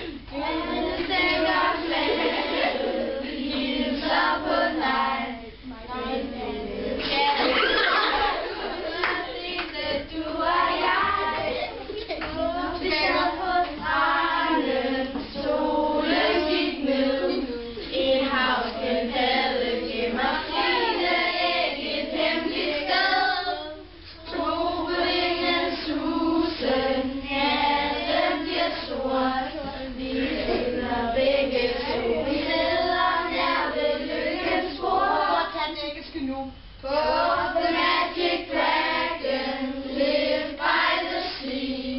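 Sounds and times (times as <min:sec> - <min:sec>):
children singing: 0:00.0 - 0:35.7, 0:36.9 - 0:41.9.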